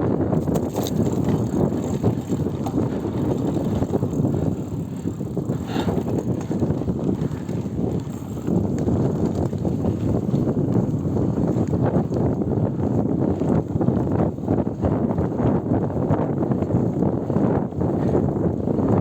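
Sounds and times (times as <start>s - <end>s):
wind on microphone: 0.0s - 19.0s
bike tyres crackling and rattling: 0.1s - 19.0s.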